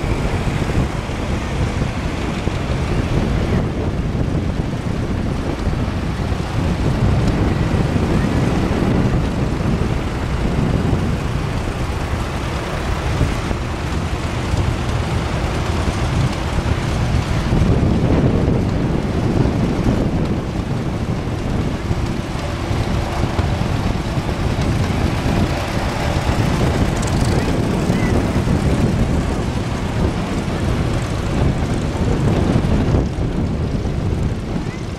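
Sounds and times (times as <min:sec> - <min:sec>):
tractor engines passing: 0:00.0 - 0:34.9
wind rumble on microphone: 0:00.0 - 0:34.9.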